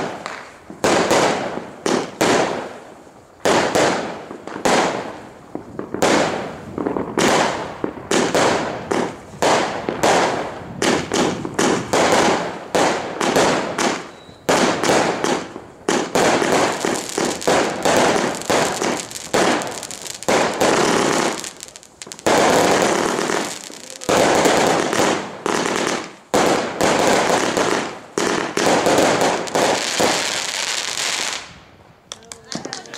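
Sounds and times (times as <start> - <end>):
fireworks banging and crackling: 0.0 - 32.9.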